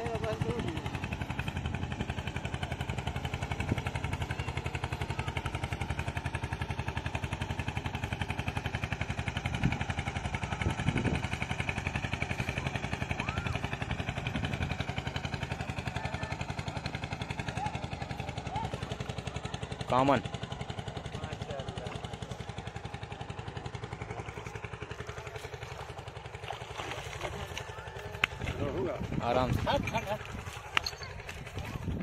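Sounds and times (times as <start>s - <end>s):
motorboat engine running: 0.0s - 32.0s.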